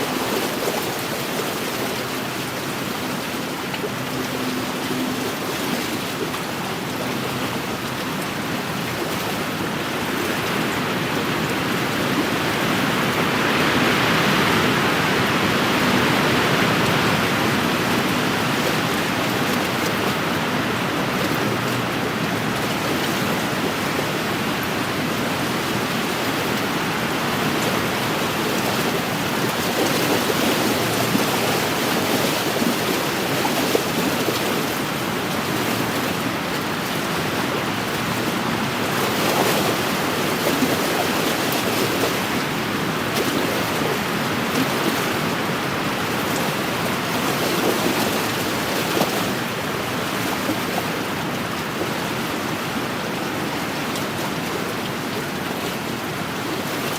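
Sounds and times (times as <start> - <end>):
waves lapping on shore: 0.0 - 56.9.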